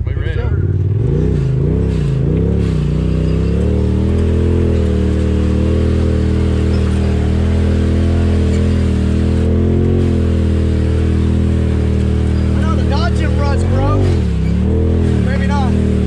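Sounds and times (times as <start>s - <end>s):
utility vehicle engine driving: 0.0s - 16.0s.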